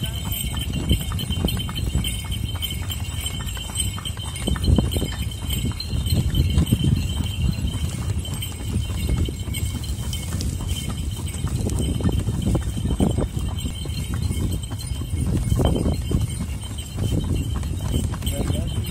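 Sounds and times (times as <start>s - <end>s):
horse hooves on stone: 0.0s - 18.9s.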